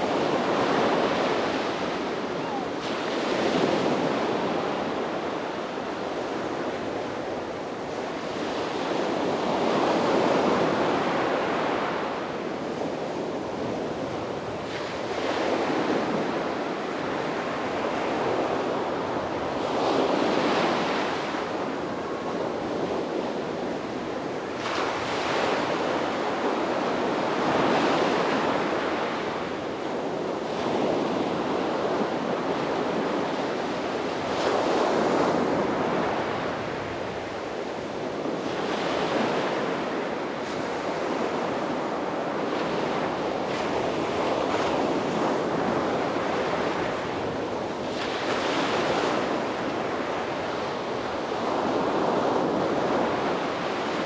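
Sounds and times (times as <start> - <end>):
waves breaking on a beach: 0.0 - 54.0
wind on microphone: 0.0 - 54.0.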